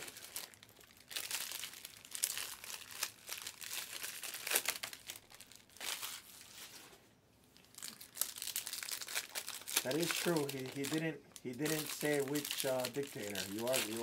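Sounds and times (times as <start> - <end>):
packaging crinkling and rustling: 0.0 - 6.9, 7.5 - 14.0.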